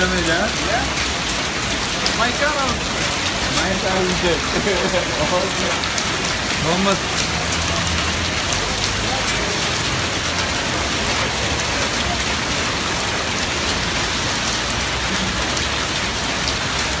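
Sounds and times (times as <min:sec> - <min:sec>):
hailstones ticking: 0:00.0 - 0:17.0
rain hissing on road: 0:00.0 - 0:17.0.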